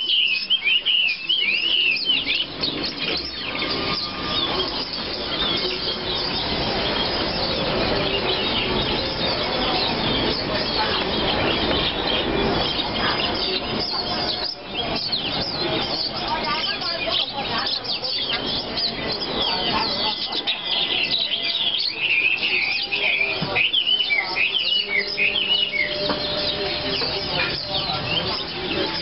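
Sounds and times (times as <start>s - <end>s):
caged songbirds chirping: 0.0s - 29.0s.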